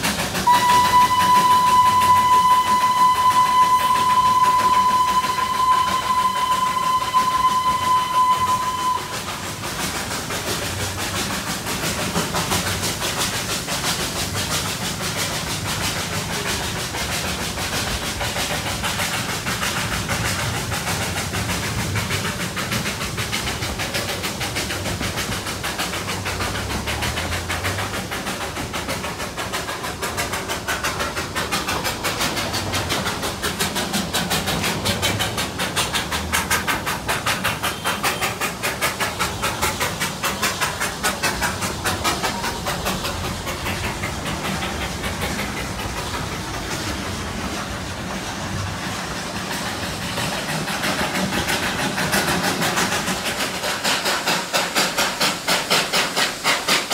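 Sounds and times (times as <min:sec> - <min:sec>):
steam hiss: 0:00.0 - 0:56.9
steam locomotive exhaust chuffs: 0:00.0 - 0:56.9
wheels rumbling on rails: 0:00.0 - 0:56.9.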